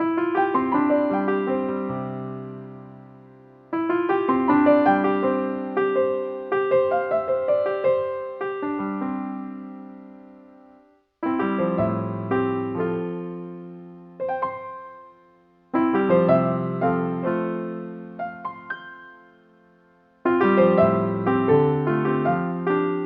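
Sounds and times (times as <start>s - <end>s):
gentle piano chords: 0.0s - 23.0s.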